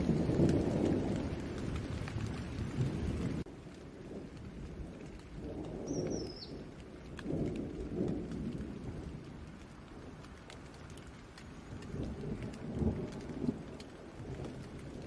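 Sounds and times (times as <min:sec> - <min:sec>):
rolling thunder: 0:00.0 - 0:15.0
steady rain: 0:00.0 - 0:15.0
ticking raindrops: 0:00.0 - 0:15.0.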